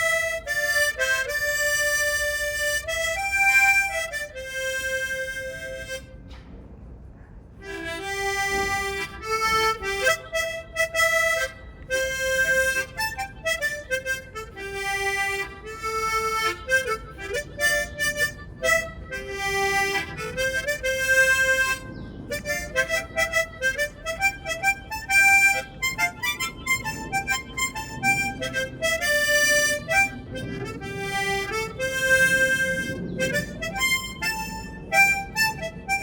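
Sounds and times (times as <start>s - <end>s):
slow instrumental melody: 0.0s - 6.4s, 7.6s - 36.0s.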